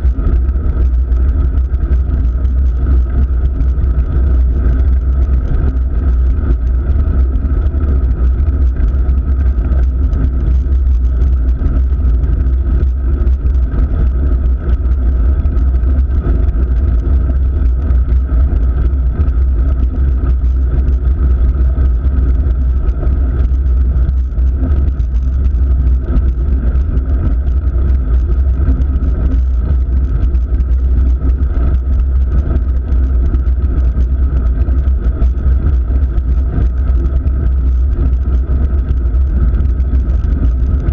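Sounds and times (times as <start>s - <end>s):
road vibration rumble: 0.0s - 40.9s.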